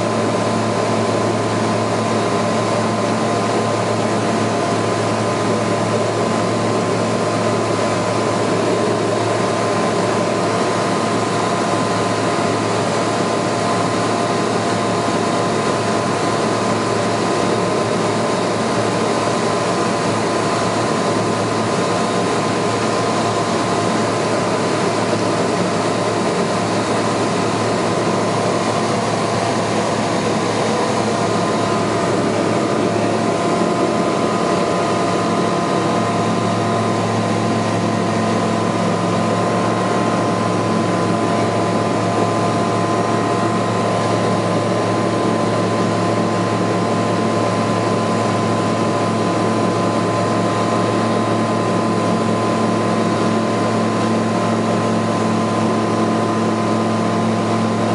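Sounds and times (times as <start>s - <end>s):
aircraft engine and propeller drone: 0.0s - 57.9s.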